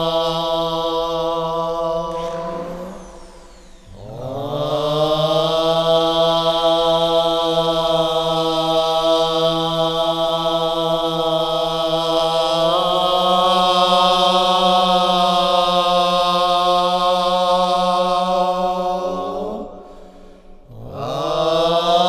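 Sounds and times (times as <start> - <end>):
person chanting a low drone: 0.0 - 19.8, 20.7 - 22.0.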